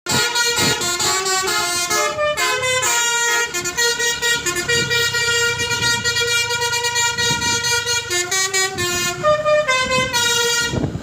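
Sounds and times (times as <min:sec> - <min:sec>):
bus air horn playing a melody: 0:00.1 - 0:11.0.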